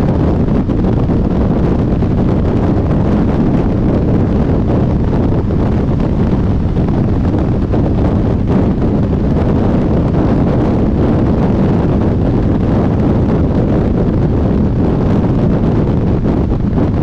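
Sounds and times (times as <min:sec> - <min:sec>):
motorcycle road and engine noise: 0:00.0 - 0:17.0
wind noise on microphone: 0:00.0 - 0:17.0.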